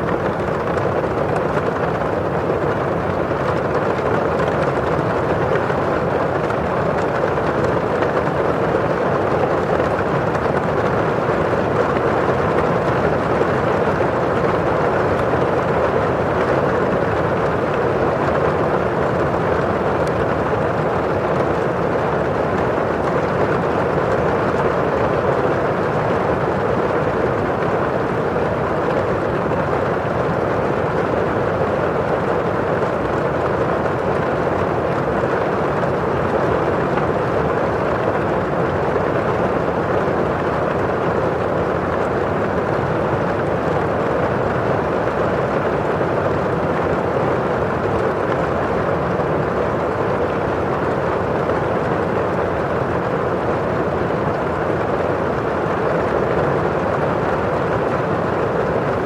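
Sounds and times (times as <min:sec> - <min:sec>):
steady rain on window: 0:00.0 - 0:59.0.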